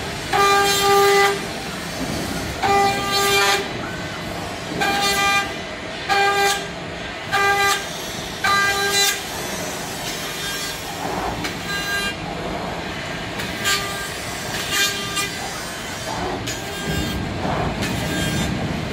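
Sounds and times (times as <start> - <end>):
steady mechanical hum: 0.0 - 18.9.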